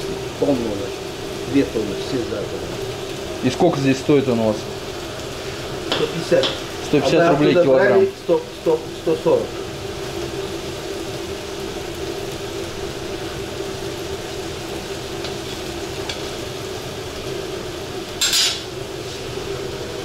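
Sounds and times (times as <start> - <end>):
rice sizzling in a pot: 0.0 - 20.0.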